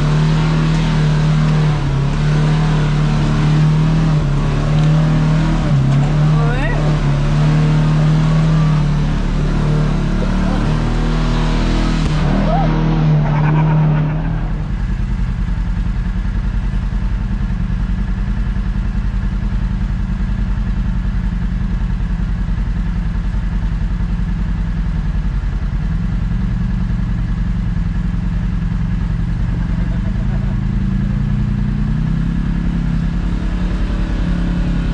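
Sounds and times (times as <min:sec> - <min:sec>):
engine running at low revs: 0:00.0 - 0:34.9.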